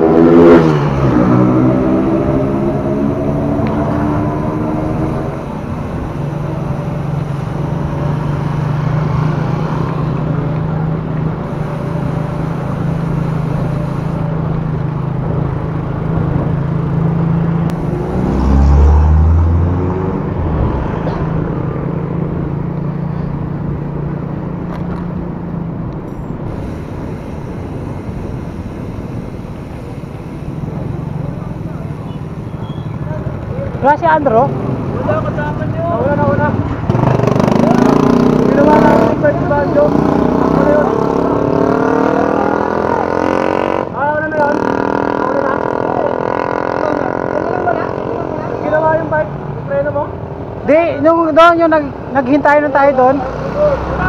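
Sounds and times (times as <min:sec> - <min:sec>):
motorcycle engine cruising: 0:00.0 - 0:51.1
wind and road noise: 0:00.0 - 0:54.0.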